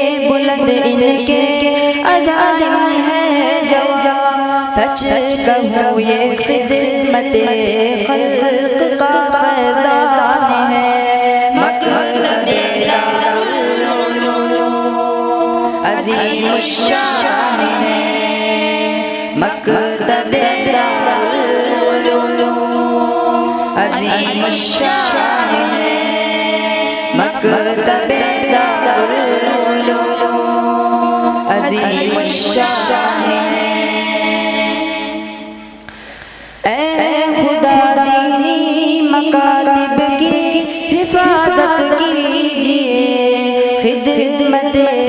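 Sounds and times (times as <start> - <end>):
boys' chorus singing unaccompanied: 0.0 - 35.9, 36.9 - 45.0.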